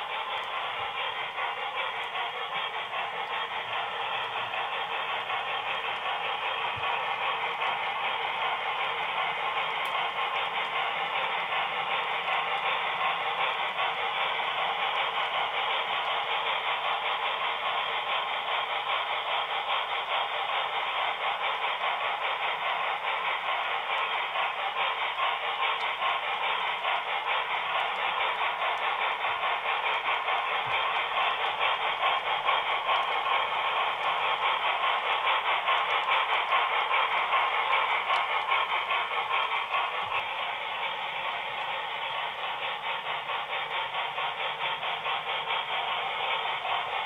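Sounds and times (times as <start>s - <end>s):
model train motor: 0.0s - 47.0s
model train wheels clattering: 0.0s - 47.0s.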